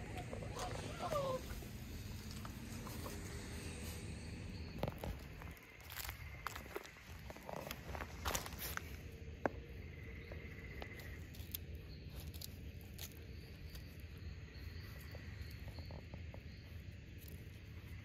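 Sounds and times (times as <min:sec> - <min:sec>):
faint insects chirping: 0:00.0 - 0:18.0
paws padding on concrete and leaves: 0:00.0 - 0:18.0.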